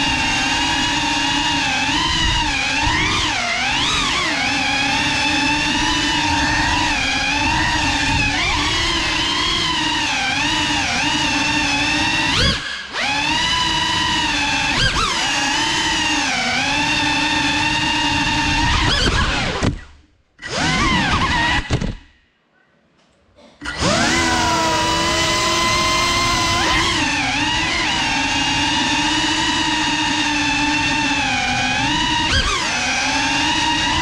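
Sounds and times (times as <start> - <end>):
drone propellers whining: 0.0 - 22.1, 23.6 - 34.0.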